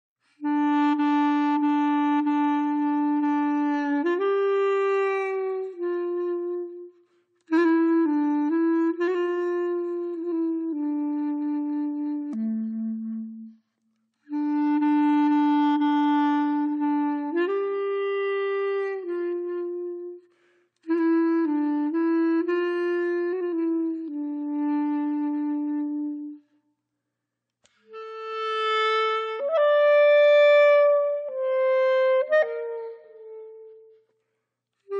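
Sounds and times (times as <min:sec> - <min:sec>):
slow wind instrument melody: 0:00.3 - 0:26.6, 0:27.6 - 0:34.2.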